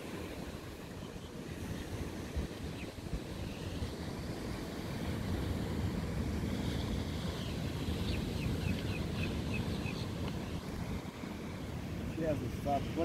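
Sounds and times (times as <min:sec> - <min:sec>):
ocean surf washing onto beach: 0:00.0 - 0:13.0
wind buffeting microphone: 0:00.0 - 0:13.0.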